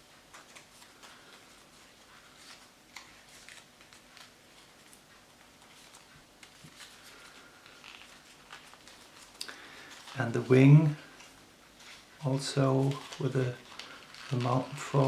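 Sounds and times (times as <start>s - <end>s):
paper rustling and crackling: 0.1s - 15.0s.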